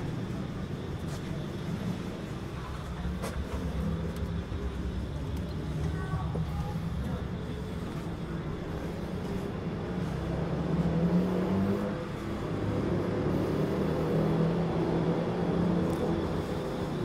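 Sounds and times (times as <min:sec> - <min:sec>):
street traffic noise: 0:00.0 - 0:17.0
vehicle engine running: 0:00.0 - 0:17.0.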